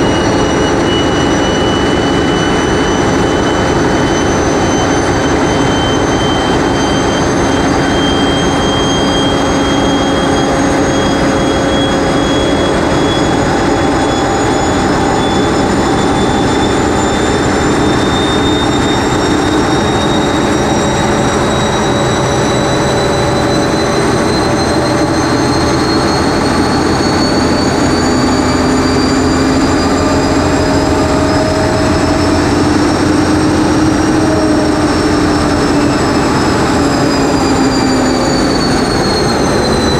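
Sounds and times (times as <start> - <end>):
locomotive diesel engine running: 0.0 - 39.9
turbocharger whine: 0.0 - 39.9.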